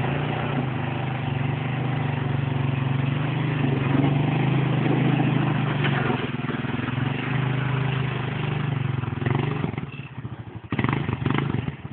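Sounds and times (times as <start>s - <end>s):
atv engine running: 0.0s - 11.9s.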